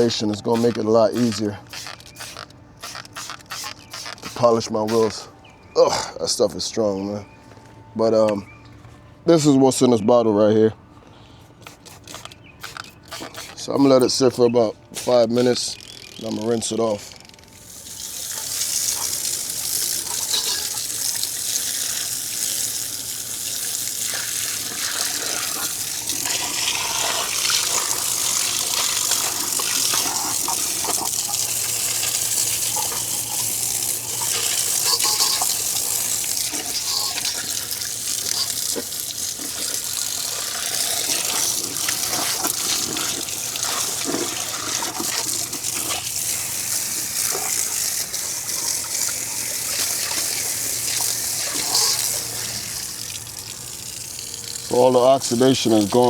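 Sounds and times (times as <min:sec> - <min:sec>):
water spray rinsing wheel: 0:00.0 - 0:05.2, 0:11.7 - 0:17.0, 0:17.6 - 0:56.0.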